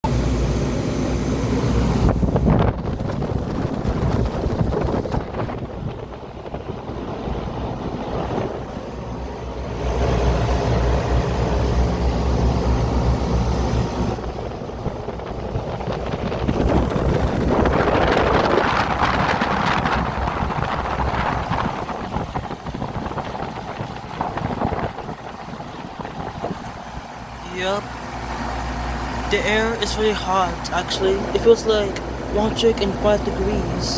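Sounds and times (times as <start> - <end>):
air conditioner hum: 0.0 - 33.9
fan air rushing on microphone: 0.0 - 33.9.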